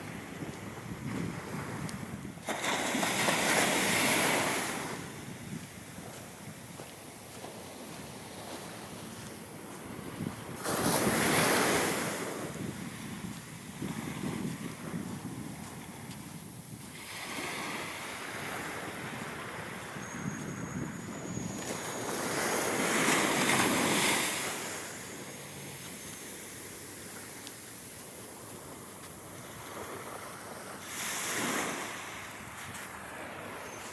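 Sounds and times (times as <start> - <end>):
ocean waves crashing on shore: 0.0 - 6.2, 6.8 - 33.9
wind on microphone: 0.0 - 33.9.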